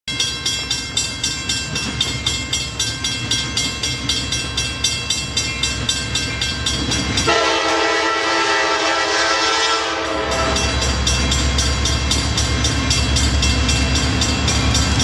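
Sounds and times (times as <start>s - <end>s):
low rumble of train: 0.1s - 15.0s
railroad crossing bell ringing: 0.1s - 15.0s.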